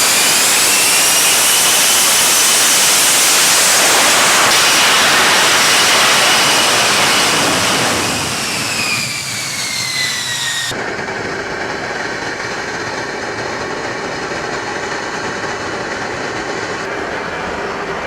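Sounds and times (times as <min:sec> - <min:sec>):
dull jet rumble: 0:00.0 - 0:18.0
jet flying past: 0:00.0 - 0:18.0.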